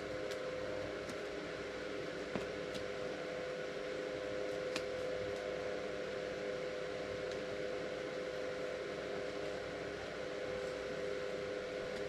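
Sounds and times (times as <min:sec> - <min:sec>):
steady hum and hiss: 0:00.0 - 0:12.0.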